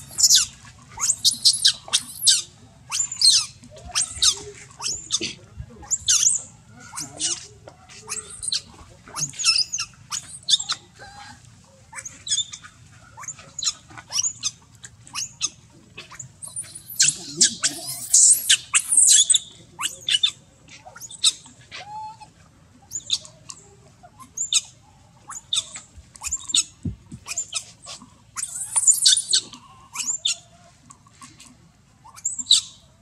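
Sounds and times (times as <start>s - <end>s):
infant monkey screaming: 0.0s - 22.3s, 25.3s - 30.5s, 32.0s - 32.8s.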